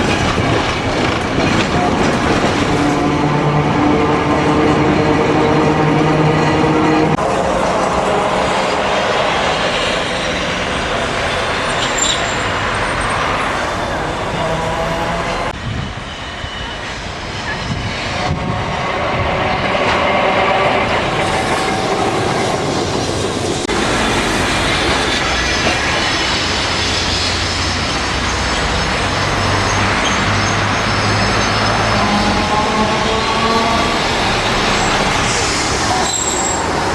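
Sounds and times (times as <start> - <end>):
streetcar rumbling on tracks: 0.0 - 36.9.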